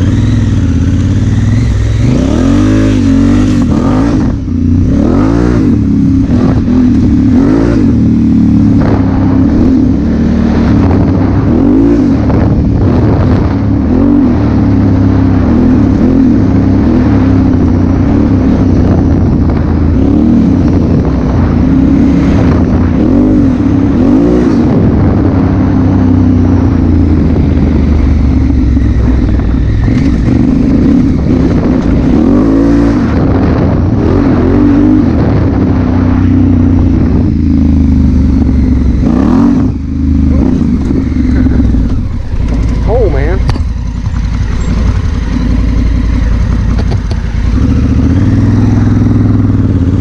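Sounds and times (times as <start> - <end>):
motorcycle engine at speed: 0.0 - 50.0
wind noise: 0.0 - 50.0.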